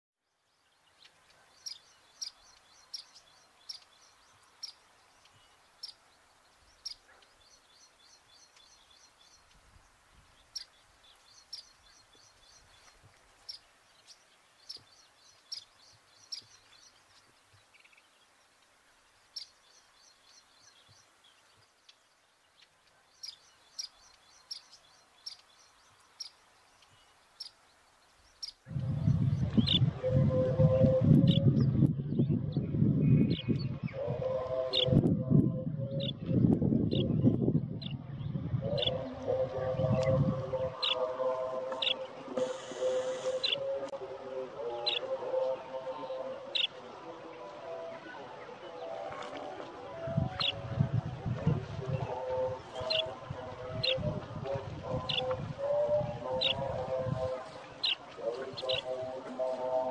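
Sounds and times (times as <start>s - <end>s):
birds chirping: 0.3s - 59.9s.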